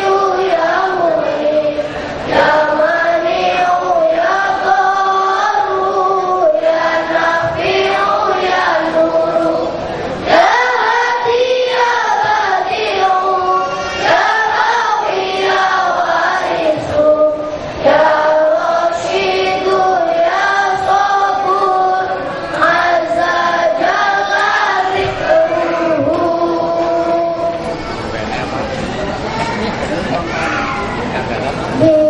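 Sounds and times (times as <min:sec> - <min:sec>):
boys choir singing: 0:00.0 - 0:28.1.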